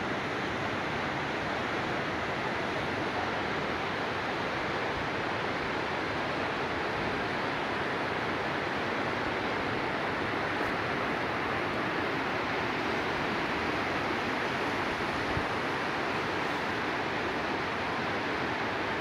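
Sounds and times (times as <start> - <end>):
river rushing over rocks: 0.0 - 19.0.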